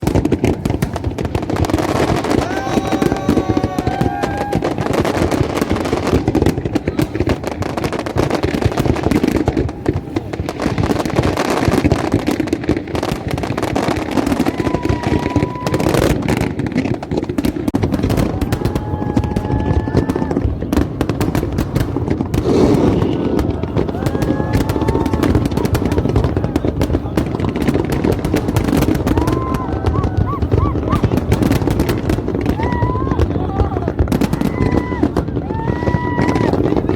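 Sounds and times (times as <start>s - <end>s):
crowd chatter: 0.0s - 36.9s
fireworks crackling and popping: 0.0s - 36.9s.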